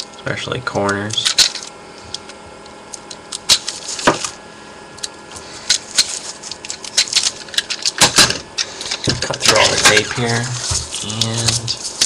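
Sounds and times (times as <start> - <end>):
cardboard and tape handling: 0.9 - 4.4, 5.0 - 12.0.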